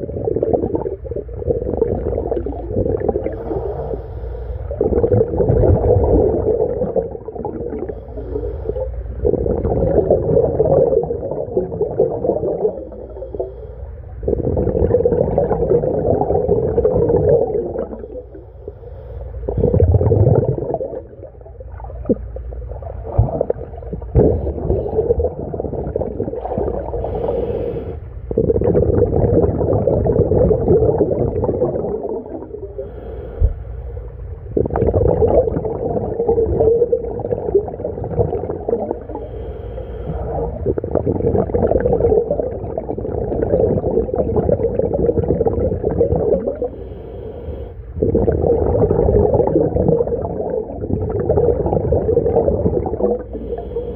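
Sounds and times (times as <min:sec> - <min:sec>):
bubbly exhalations: 0:00.0 - 0:04.0, 0:04.7 - 0:13.4, 0:14.2 - 0:18.3, 0:19.5 - 0:33.6, 0:34.4 - 0:39.4, 0:40.1 - 0:46.8, 0:48.0 - 0:53.9
diver breathing underwater: 0:00.0 - 0:44.2, 0:45.2 - 0:49.7, 0:50.3 - 0:53.9.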